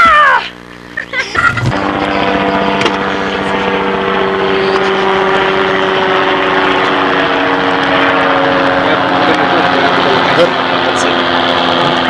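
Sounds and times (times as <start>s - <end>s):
loud steady engine drone: 0.0s - 12.0s.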